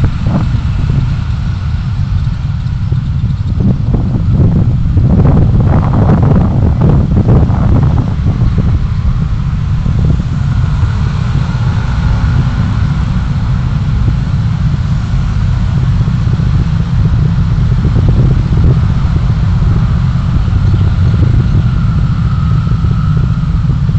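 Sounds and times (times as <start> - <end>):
road noise: 0.0 - 23.9
wind noise: 0.0 - 23.9.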